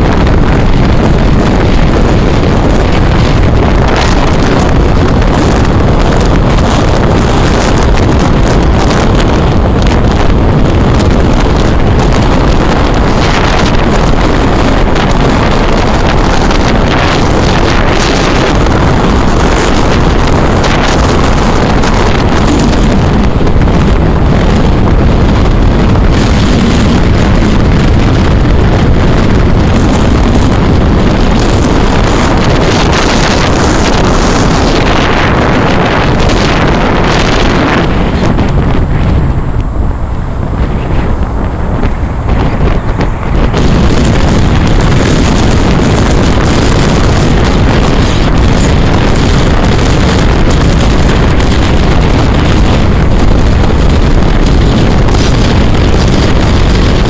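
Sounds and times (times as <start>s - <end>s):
car road noise: 0.0s - 57.0s
wind rushing over microphone: 0.0s - 57.0s.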